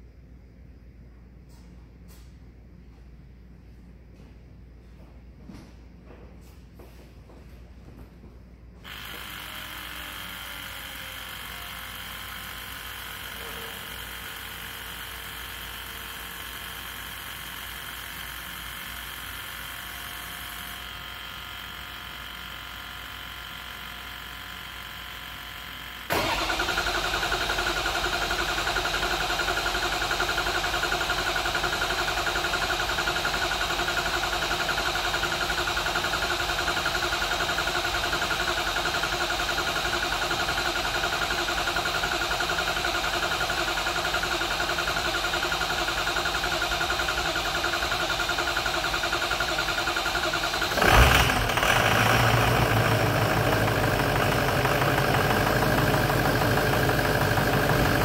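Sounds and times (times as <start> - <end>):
diesel engine cranking and starting: 8.9 - 58.0.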